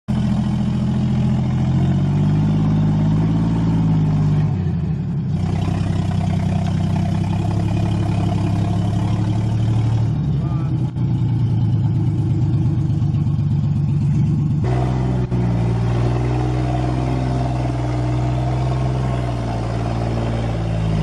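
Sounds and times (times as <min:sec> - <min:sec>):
truck engine under heavy load: 0:00.1 - 0:21.0.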